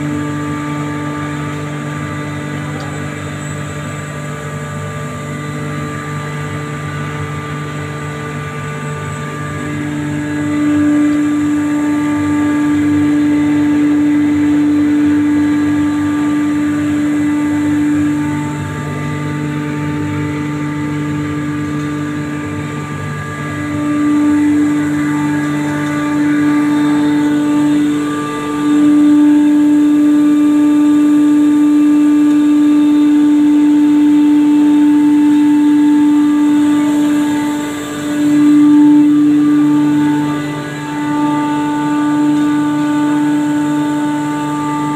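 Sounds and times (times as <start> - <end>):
machine whining tones: 0.0 - 44.9
machinery motor hum: 0.0 - 44.9.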